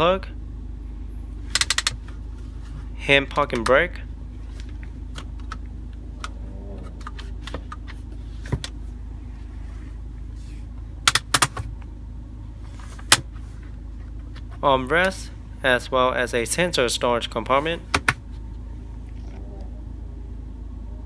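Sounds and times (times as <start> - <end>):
low hum inside car cabin: 0.0 - 21.0.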